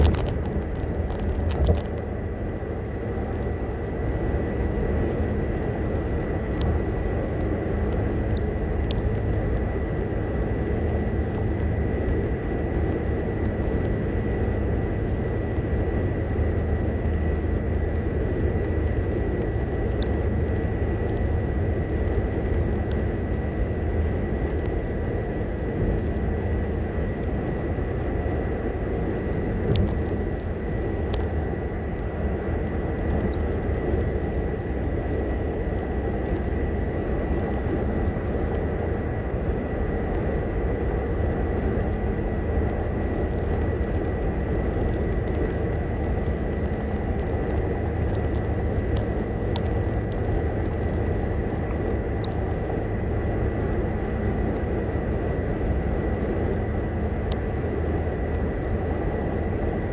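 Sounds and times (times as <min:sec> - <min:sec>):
tyre and engine road drone: 0:00.0 - 0:59.9.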